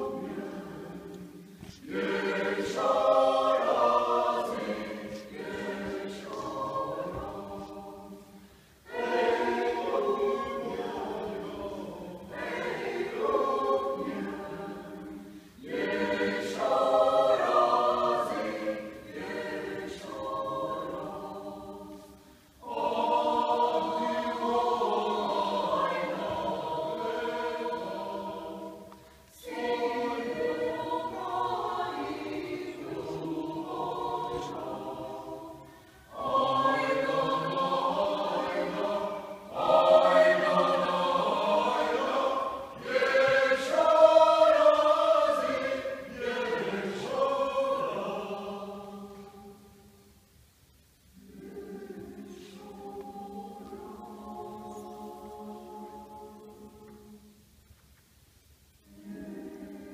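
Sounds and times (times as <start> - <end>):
mixed choir singing unaccompanied: 0.0 - 50.1, 51.1 - 57.6, 58.8 - 59.9.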